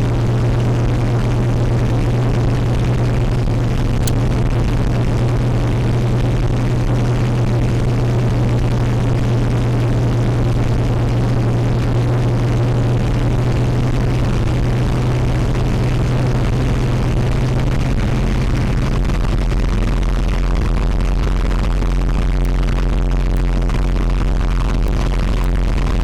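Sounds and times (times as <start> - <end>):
vehicle engine and road drone: 0.0 - 26.0.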